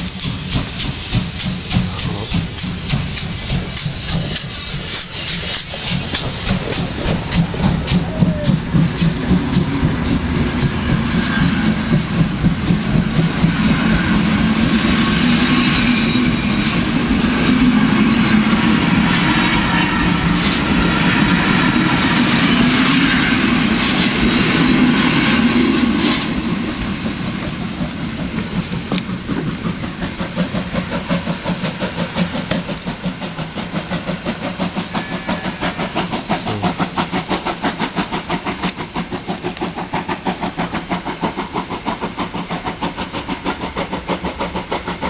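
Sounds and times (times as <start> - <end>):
steam locomotive chuffing: 0.0 - 45.0
train coaches rumbling past: 0.0 - 45.0.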